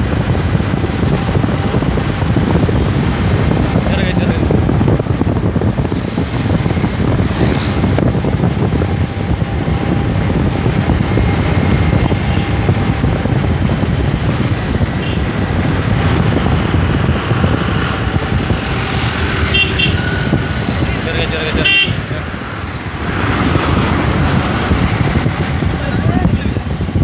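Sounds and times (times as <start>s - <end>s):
vehicle and road noise: 0.0s - 27.0s
wind buffeting microphone: 0.0s - 27.0s.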